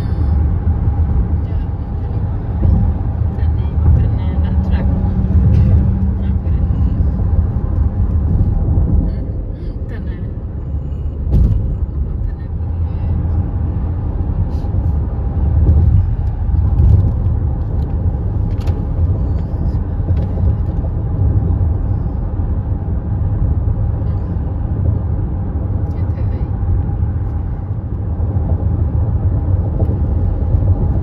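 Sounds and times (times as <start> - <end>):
car road noise rumble: 0.0 - 31.0.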